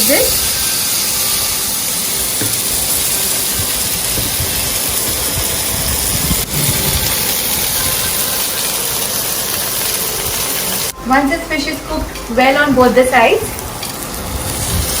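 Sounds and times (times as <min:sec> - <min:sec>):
fish frying in oil: 0:00.0 - 0:11.0, 0:13.1 - 0:15.0
loud sizzle: 0:00.0 - 0:15.0.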